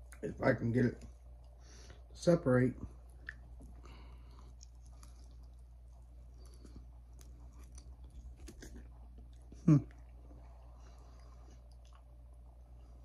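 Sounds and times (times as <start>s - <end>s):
faint chewing: 0.0s - 2.2s, 2.8s - 13.0s.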